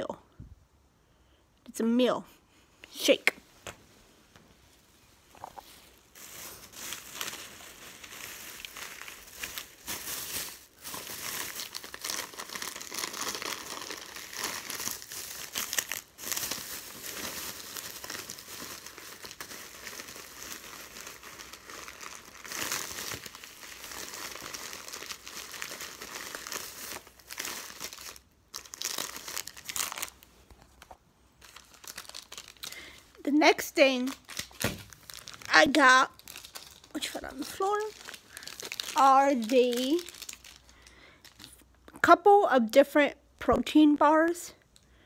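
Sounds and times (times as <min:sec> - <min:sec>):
plastic bags crinkling: 0:05.3 - 0:41.6.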